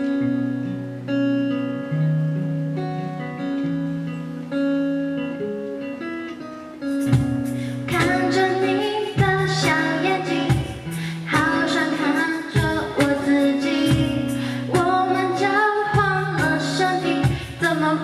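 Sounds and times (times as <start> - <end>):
acoustic guitar picked notes: 0.0 - 18.0
strummed guitar chords: 0.0 - 18.0.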